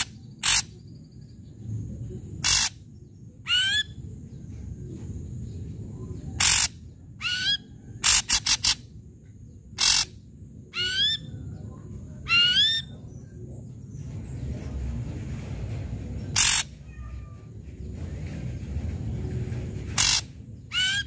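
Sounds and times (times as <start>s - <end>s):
bird harsh calls and whistles: 0.0s - 1.6s, 2.3s - 9.0s, 9.6s - 14.9s, 16.2s - 18.4s, 19.8s - 21.0s.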